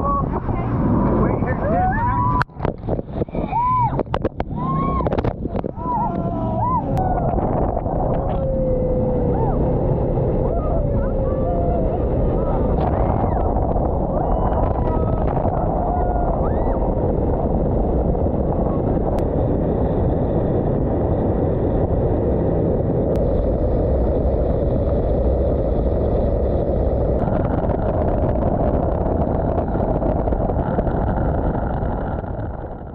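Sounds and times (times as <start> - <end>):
boat engine and water rush: 0.0 - 32.9.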